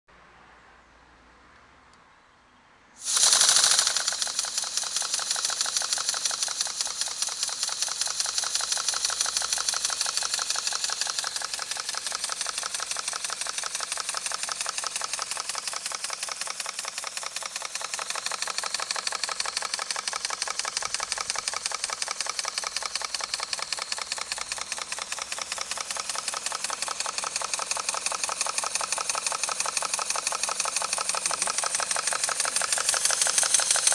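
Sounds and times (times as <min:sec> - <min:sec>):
engine hissing exhaust beat: 0:03.0 - 0:33.9.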